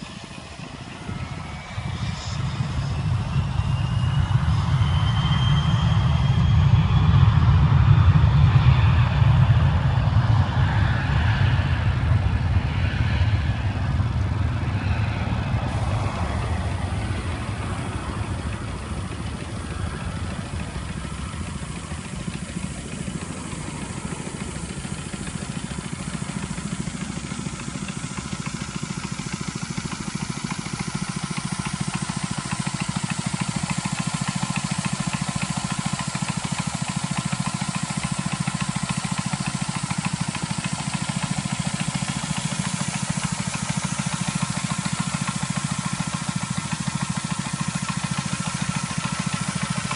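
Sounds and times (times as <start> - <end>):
engine rumbling: 0.0 - 49.9.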